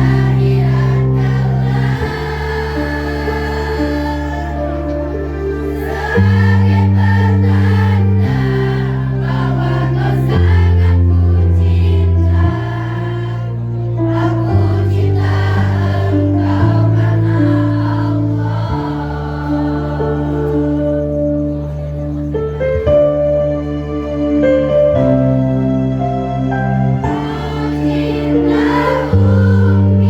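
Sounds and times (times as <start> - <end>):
choir singing: 0.0 - 30.0
low sustained accompaniment chords: 0.0 - 30.0.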